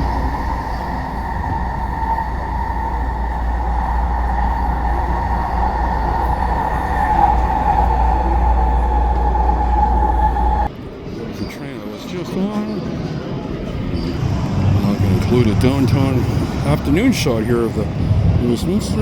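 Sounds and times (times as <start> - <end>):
train rumble: 0.0 - 19.0
train whine: 0.0 - 19.0.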